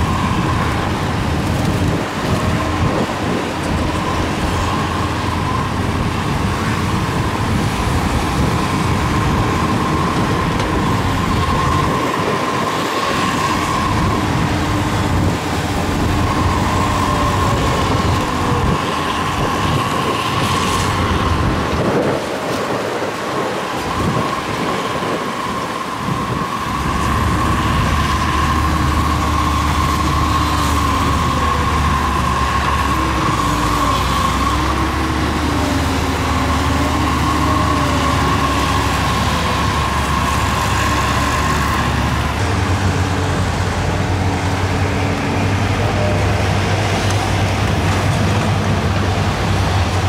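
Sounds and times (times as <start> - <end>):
heavy diesel machinery engine: 0.0 - 50.0
steady high whine: 0.0 - 50.0.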